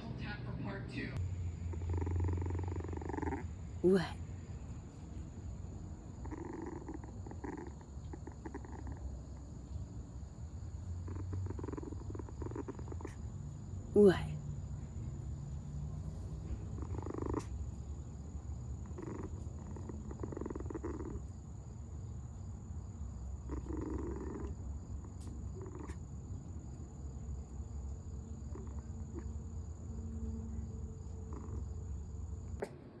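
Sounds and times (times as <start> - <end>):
puppy growling: 1.2 - 4.3, 6.0 - 14.3, 15.3 - 27.4, 28.2 - 32.6.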